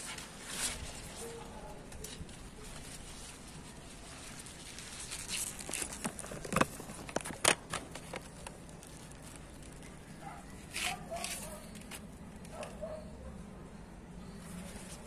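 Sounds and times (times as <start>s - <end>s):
leaves rustling and crackling: 0.0s - 12.6s.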